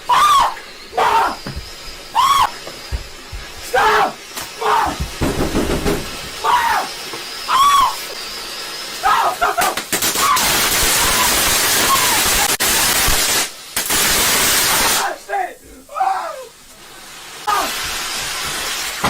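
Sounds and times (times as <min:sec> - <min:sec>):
firework hissing: 0:00.0 - 0:19.0
firework cracks: 0:01.2 - 0:15.2, 0:16.8 - 0:19.0.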